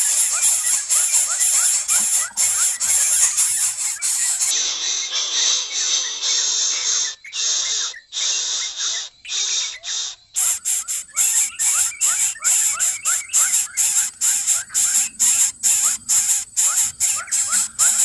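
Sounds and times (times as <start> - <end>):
nestlings begging with hissing rasps: 0.0 - 4.8, 6.4 - 18.0.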